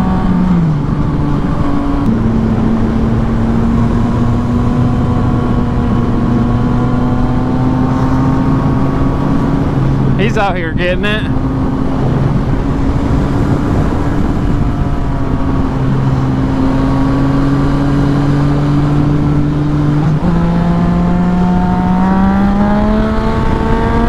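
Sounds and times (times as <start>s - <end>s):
motorcycle engine accelerating: 0.0s - 24.0s
wind noise on microphone: 0.0s - 24.0s.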